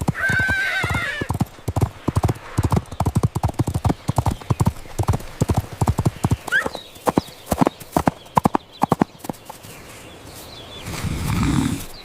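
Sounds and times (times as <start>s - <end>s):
horse hooves clip-clopping: 0.0s - 9.8s.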